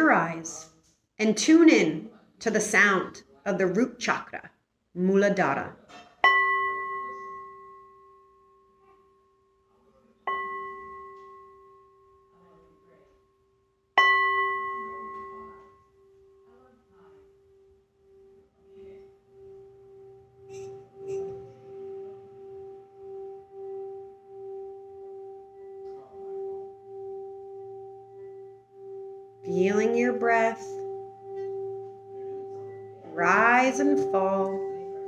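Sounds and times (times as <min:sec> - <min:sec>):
singing bowl ringing: 0:06.2 - 0:09.6, 0:10.3 - 0:35.0.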